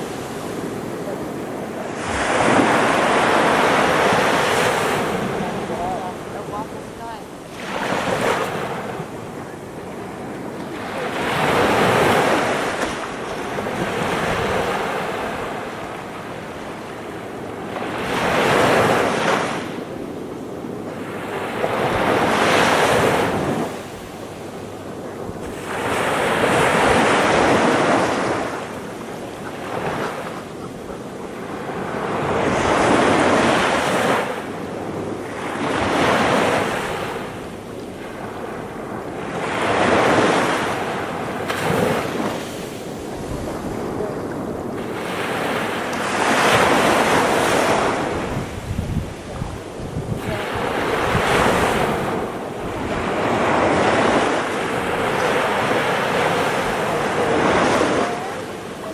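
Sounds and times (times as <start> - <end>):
surf breaking on beach: 0.0 - 58.9.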